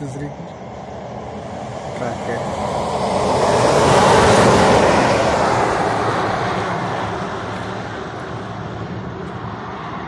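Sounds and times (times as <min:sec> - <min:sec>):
low road hum: 0:00.0 - 0:10.0
truck passing by: 0:00.0 - 0:10.0.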